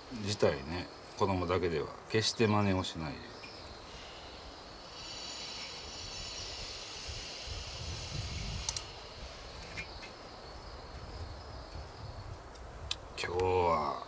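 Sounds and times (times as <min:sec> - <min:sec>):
campfire crackles: 0:00.0 - 0:14.0
insects chirring: 0:00.0 - 0:14.0.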